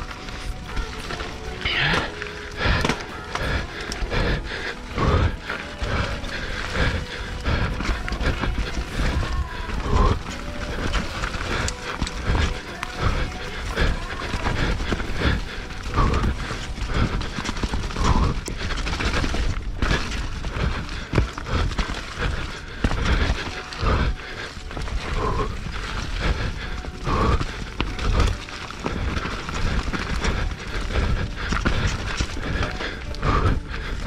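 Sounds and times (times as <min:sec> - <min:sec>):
mountain bike rattling: 0:00.0 - 0:34.0
wheels knocking on roots: 0:00.0 - 0:34.0.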